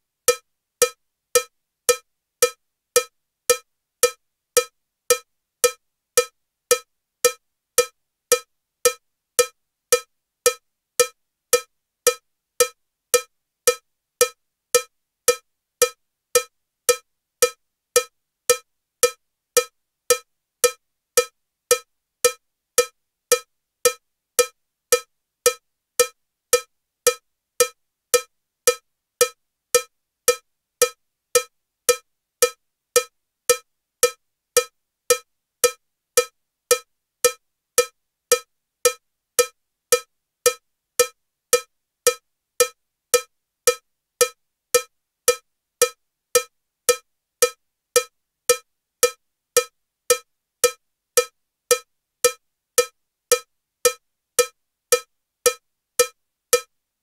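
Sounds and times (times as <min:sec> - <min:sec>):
cowbell metronome clicking: 0:00.3 - 0:56.7.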